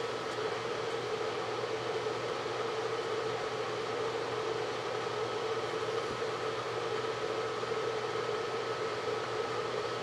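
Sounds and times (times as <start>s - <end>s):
steady hum and hiss: 0.0s - 10.0s.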